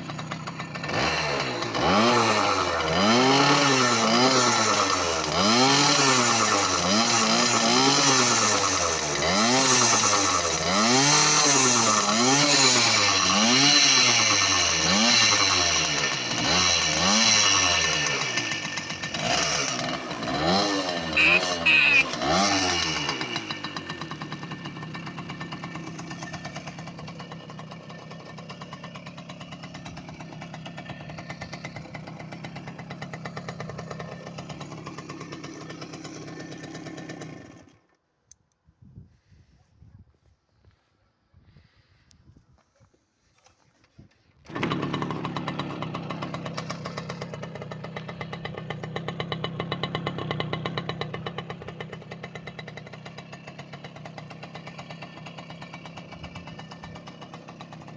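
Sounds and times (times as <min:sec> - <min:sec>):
moped engine revving and idling: 0:00.0 - 0:37.9, 0:44.4 - 0:57.9.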